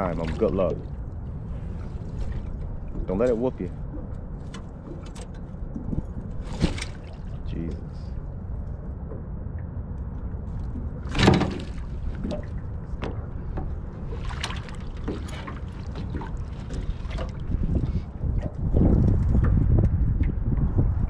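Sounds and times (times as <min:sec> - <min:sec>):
knocks and splashes: 0:00.0 - 0:07.9, 0:10.5 - 0:21.0
wind rumbling on microphone: 0:00.0 - 0:21.0.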